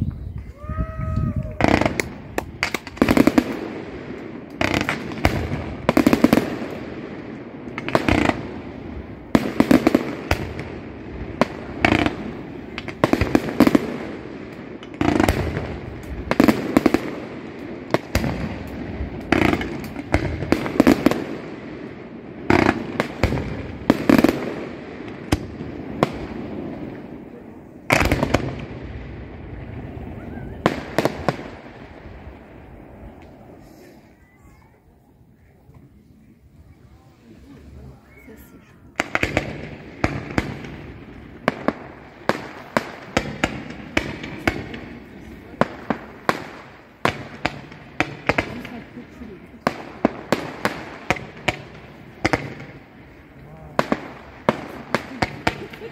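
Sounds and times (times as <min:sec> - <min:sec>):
fireworks bursting with bangs: 0:00.1 - 0:55.9.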